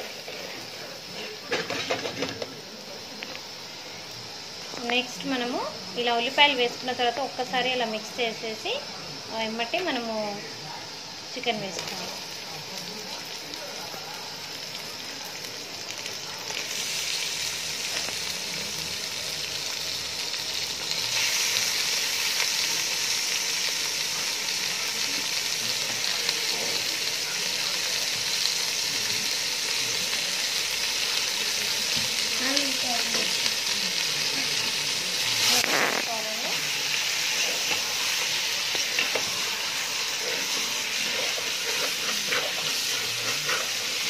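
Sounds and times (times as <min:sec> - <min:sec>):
chicken sizzling in hot oil: 0:00.0 - 0:44.0.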